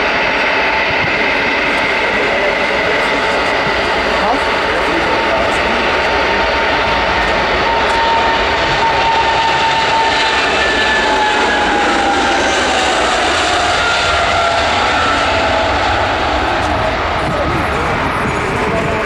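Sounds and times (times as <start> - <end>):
aircraft engines passing by: 0.0 - 19.0.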